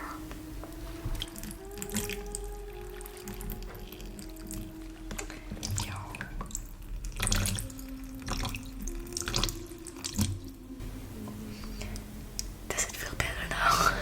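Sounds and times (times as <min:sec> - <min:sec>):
faint steady low tone: 0:00.0 - 0:14.0
water splashing and dripping: 0:00.2 - 0:13.1.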